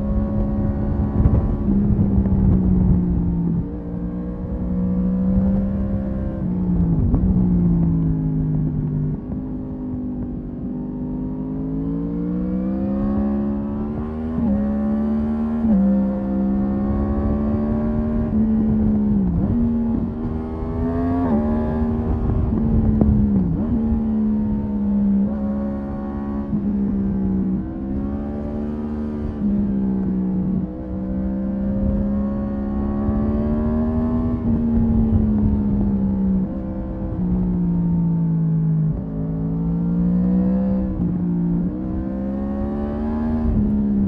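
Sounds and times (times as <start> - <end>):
wind rush on microphone: 0.0 - 11.2, 12.3 - 39.5, 40.1 - 44.0
motorcycle engine revving: 0.0 - 44.0.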